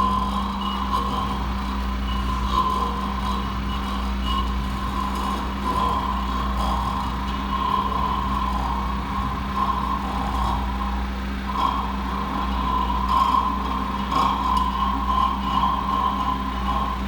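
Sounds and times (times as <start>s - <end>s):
high wavering tone: 0.0s - 17.0s
low electronic hum: 0.0s - 17.0s.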